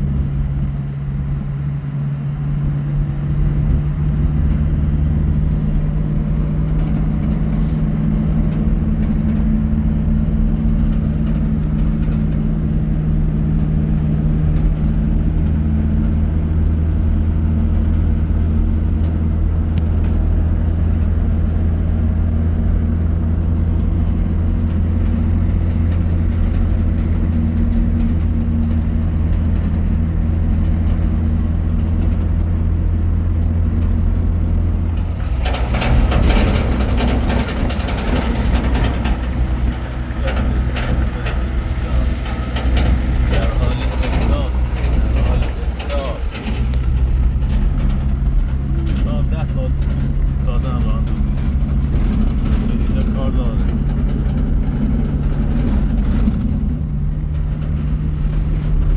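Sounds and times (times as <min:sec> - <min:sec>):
vehicle engine droning: 0:00.0 - 0:58.9.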